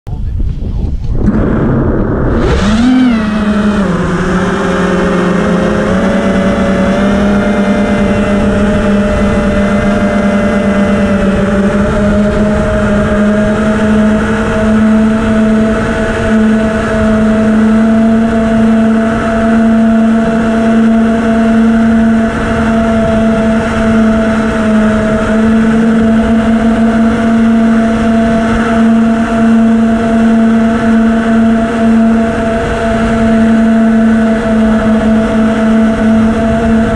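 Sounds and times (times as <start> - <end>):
drone propellers whining: 0.1 - 36.9.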